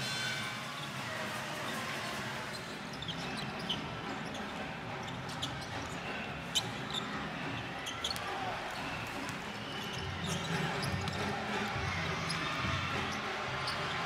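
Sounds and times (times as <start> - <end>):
crowd noise in arena: 0.0 - 14.0
sneakers squeaking on court: 2.6 - 14.0.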